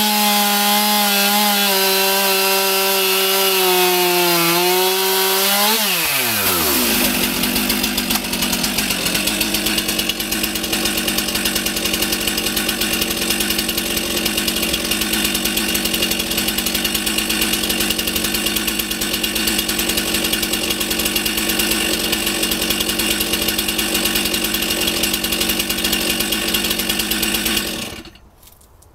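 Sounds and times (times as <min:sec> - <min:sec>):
chainsaw idling: 0:00.0 - 0:28.2.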